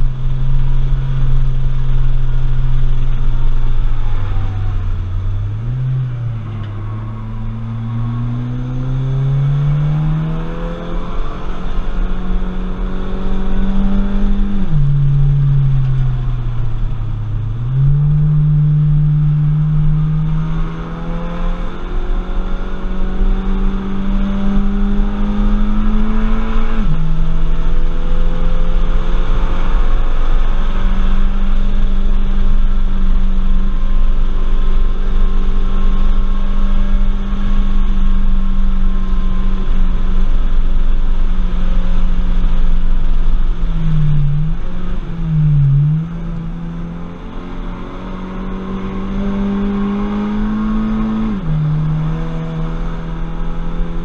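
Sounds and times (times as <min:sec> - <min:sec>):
car engine at high revs: 0:00.0 - 0:54.0
road and wind noise: 0:00.0 - 0:54.0.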